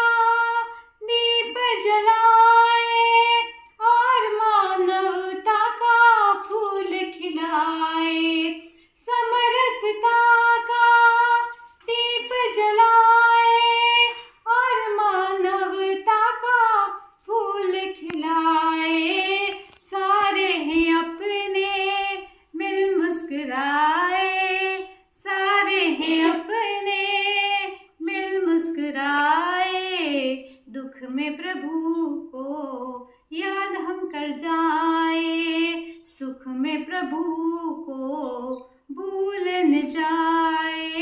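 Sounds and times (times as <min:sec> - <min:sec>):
woman singing unaccompanied: 0:00.0 - 0:41.0.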